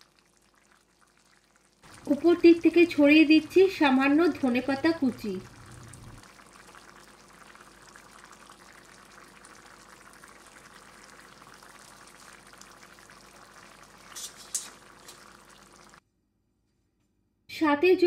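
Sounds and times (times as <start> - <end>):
curry bubbling and crackling: 0.0 - 16.0.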